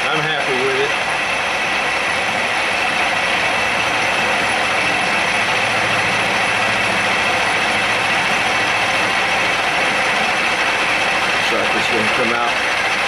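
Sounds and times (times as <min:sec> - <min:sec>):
spindle hum: 0:00.0 - 0:13.0.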